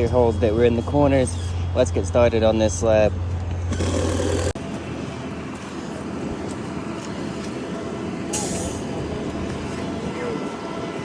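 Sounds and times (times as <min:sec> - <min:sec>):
diesel truck engines running: 0:00.0 - 0:11.0.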